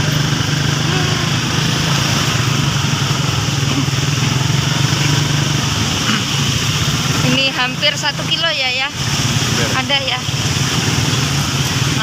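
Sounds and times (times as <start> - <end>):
road and wind noise: 0.0 - 12.0
vehicle engine running: 0.0 - 12.0.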